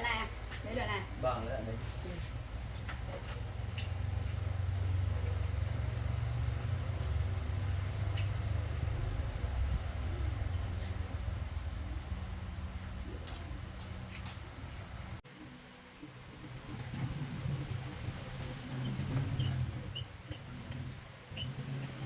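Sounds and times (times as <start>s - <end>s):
crickets chirping: 0.0s - 22.0s
low steady rumble: 0.0s - 22.0s.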